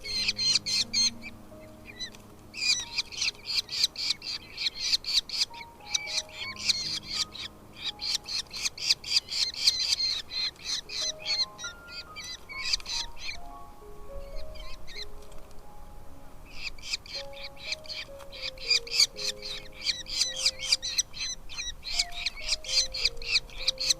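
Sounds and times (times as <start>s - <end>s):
nestlings chirping: 0.0s - 23.9s
soft background music: 0.0s - 23.9s.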